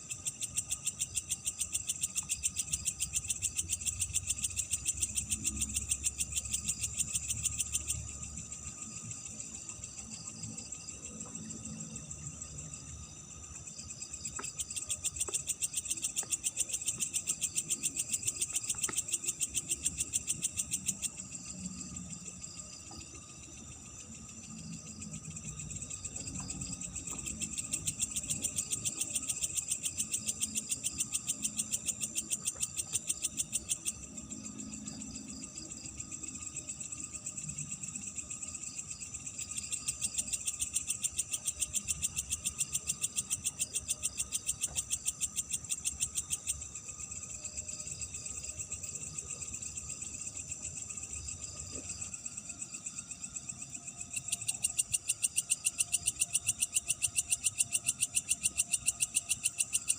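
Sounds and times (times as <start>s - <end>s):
night insects chirping: 0.0s - 59.9s.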